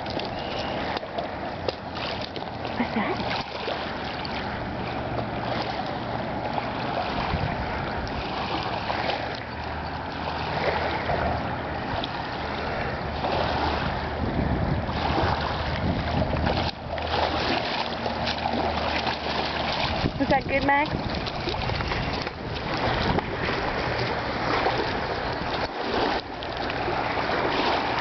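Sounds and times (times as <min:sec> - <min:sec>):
river water lapping: 0:00.0 - 0:28.0
wind buffeting microphone: 0:03.0 - 0:28.0.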